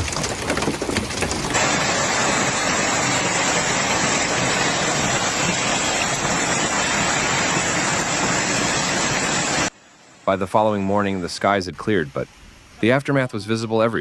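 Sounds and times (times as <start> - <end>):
heavy rain hiss: 1.5 - 14.0.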